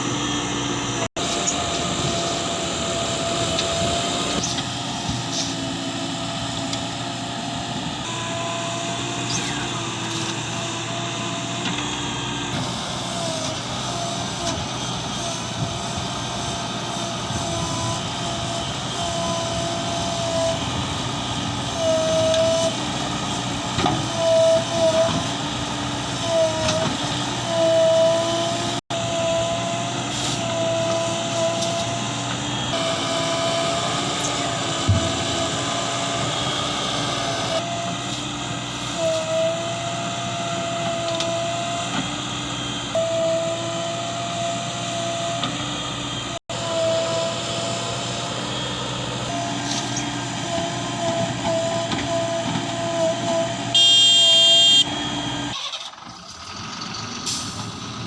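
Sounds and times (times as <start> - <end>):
high hydraulic whine: 0.0 - 57.9
diesel engine running: 0.0 - 58.0.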